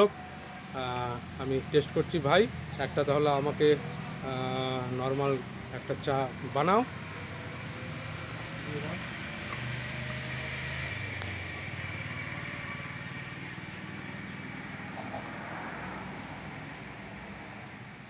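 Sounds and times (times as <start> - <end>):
road traffic hum: 0.0 - 18.0
vehicle engines running: 0.0 - 18.0.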